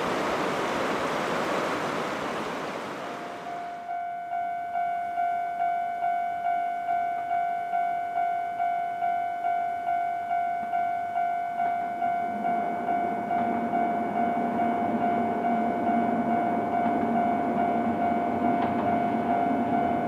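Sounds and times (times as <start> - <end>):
level crossing warning bell ringing: 3.4 - 20.0.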